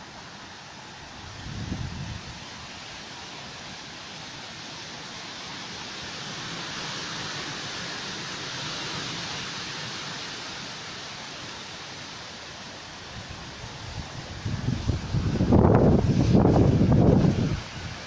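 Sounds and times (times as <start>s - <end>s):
wind rushing through foliage: 0.0s - 18.0s.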